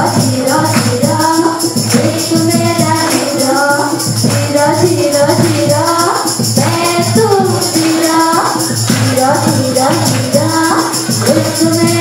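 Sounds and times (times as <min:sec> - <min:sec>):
jingling high percussion: 0:00.0 - 0:12.0
loud music with quick beat: 0:00.0 - 0:12.0.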